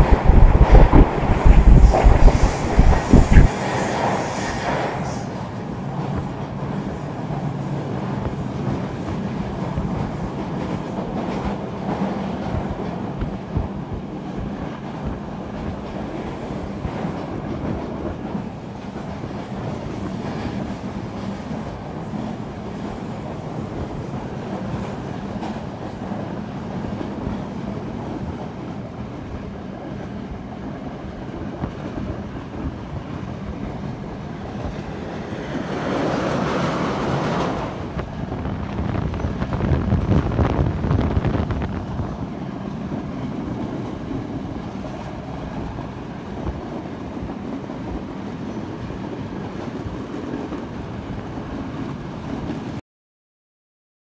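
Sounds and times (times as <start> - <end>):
train wheels rumbling on track: 0.0 - 52.8.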